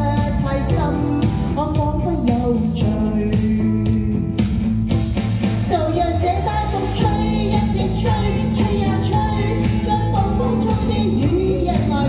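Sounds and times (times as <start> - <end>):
woman singing pop ballad: 0.0 - 4.6, 5.6 - 12.0
instrumental accompaniment with beat: 0.0 - 12.0.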